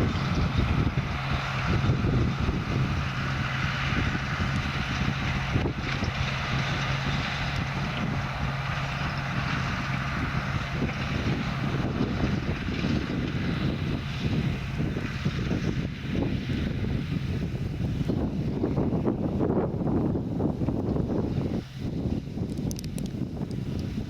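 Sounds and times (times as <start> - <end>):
tractor engine running: 0.0 - 24.0
wind on microphone: 0.0 - 24.0.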